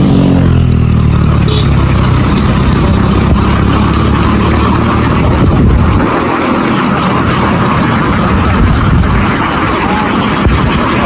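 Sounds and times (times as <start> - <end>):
engine droning loudly: 0.0 - 11.0.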